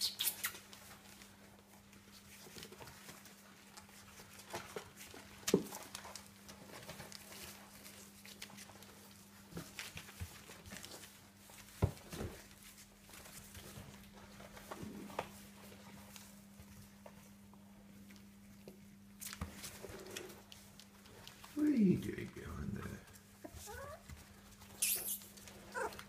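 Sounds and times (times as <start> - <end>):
puppies rustling on newspaper: 0.1 - 26.0.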